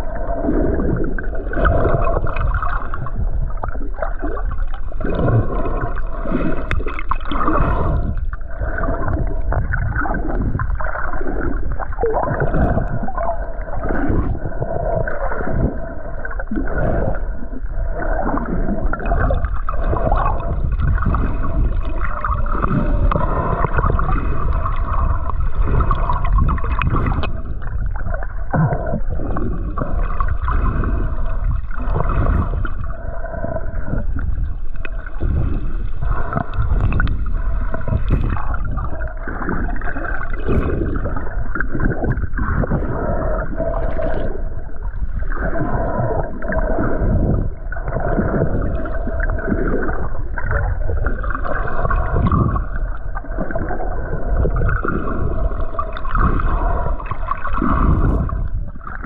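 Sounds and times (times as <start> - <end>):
muffled underwater gurgling: 0.0 - 59.0.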